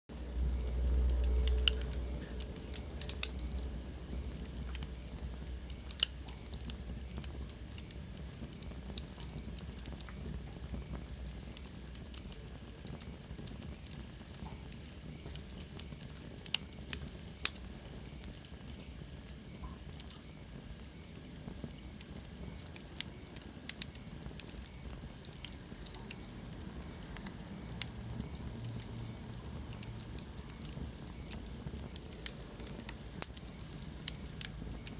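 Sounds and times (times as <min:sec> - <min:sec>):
fire hissing: 0:00.1 - 0:34.9
wood fire crackling and popping: 0:00.1 - 0:34.9.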